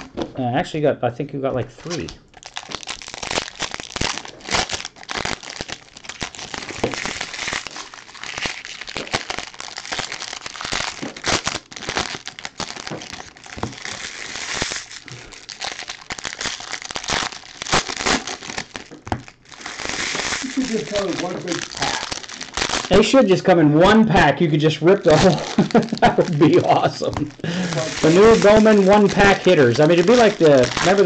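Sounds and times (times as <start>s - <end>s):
foil wrappers crinkling: 1.8s - 31.0s.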